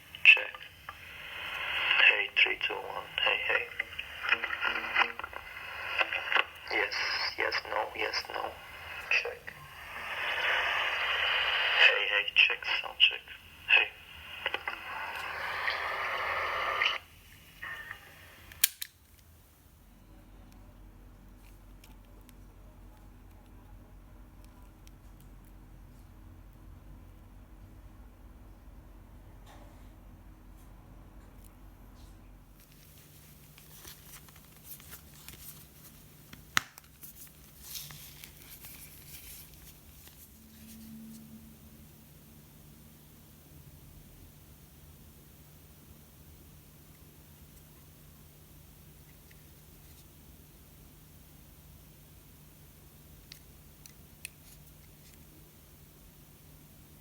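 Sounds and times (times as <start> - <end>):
tape hiss from small speaker: 0.0 - 57.0.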